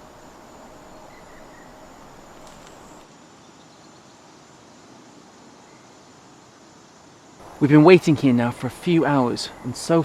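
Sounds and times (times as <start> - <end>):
high insect whine: 0.0 - 10.0.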